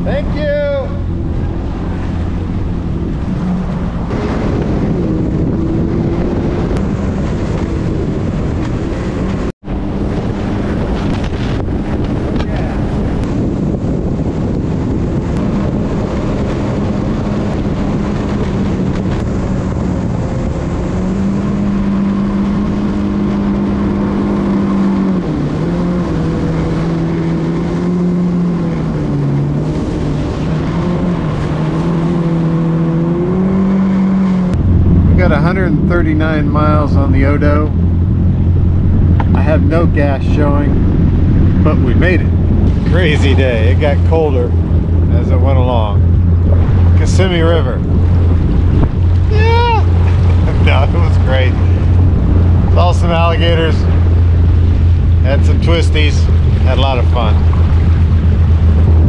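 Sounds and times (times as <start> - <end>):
watercraft engine running: 0.0 - 59.0
wind noise on microphone: 0.0 - 59.0.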